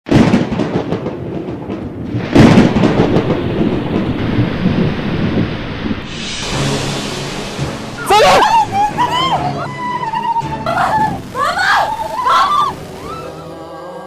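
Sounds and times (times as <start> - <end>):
thunder cracks and rumble: 0.1 - 13.4
rain hiss: 2.0 - 13.7.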